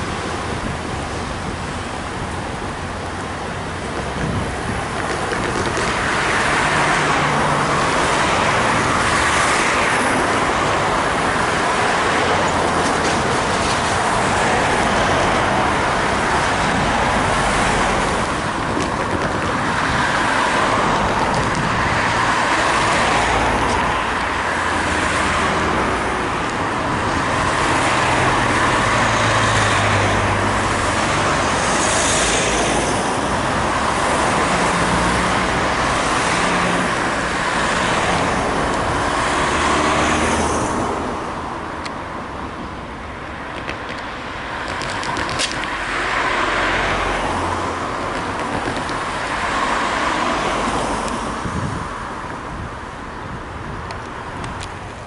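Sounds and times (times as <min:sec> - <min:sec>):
cars passing on road: 0:00.0 - 0:55.0.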